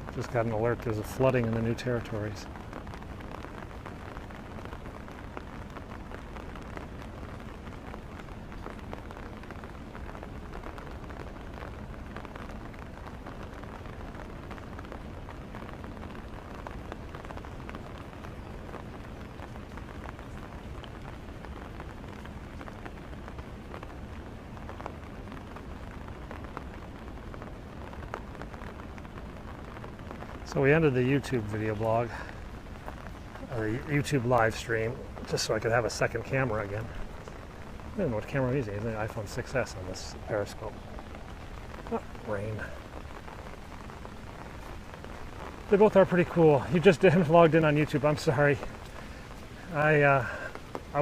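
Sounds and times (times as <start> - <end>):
raindrop ticks: 0.0 - 51.0
steady rain hiss: 0.0 - 51.0.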